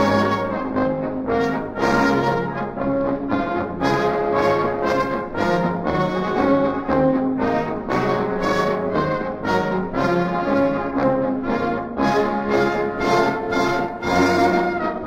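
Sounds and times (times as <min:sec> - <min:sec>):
brass military march: 0:00.0 - 0:15.0.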